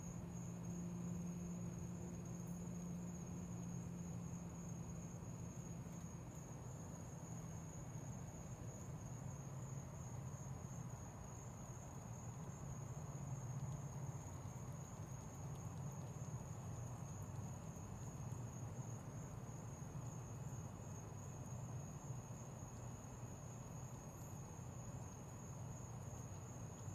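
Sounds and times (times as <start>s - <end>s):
crickets chirring: 0.0s - 26.9s.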